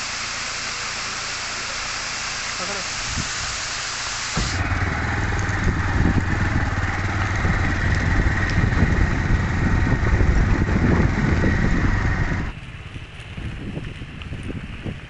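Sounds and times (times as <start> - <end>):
vehicle engine on dirt track: 0.0 - 14.8.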